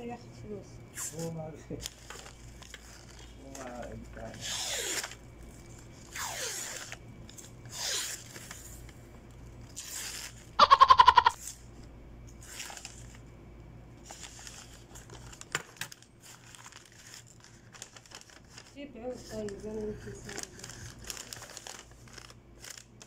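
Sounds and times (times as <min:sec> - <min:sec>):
wrapping paper rustling: 0:01.2 - 0:10.5, 0:12.4 - 0:13.2, 0:14.0 - 0:23.0.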